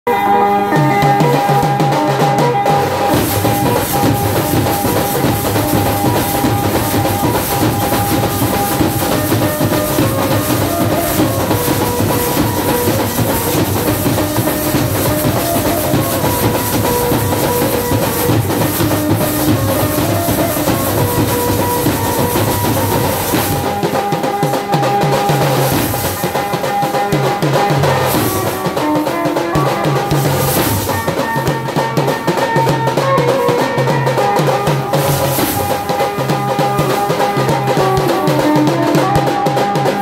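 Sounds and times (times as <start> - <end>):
drum band playing fast rhythm: 0.1 - 40.0
held melody tones: 0.1 - 40.0.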